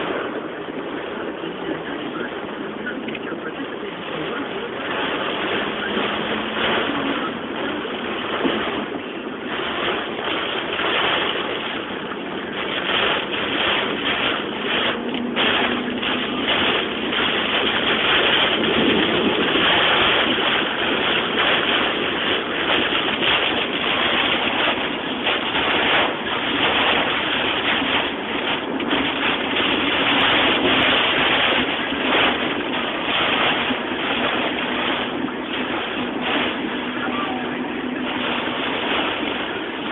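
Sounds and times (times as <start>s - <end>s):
heavy rain on car: 0.0s - 39.9s.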